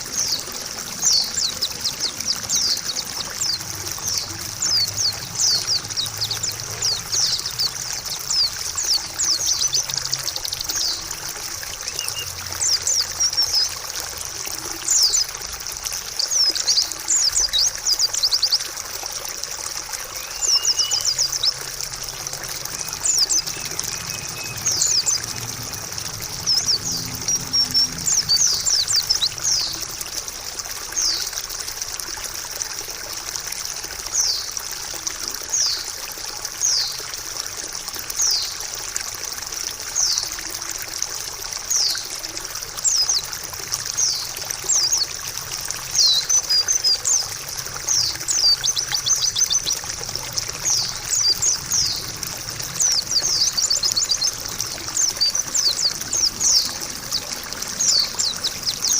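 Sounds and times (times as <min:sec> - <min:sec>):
small songbirds twittering: 0:00.0 - 0:31.8, 0:33.6 - 0:58.9
running water trickling: 0:00.0 - 0:58.9.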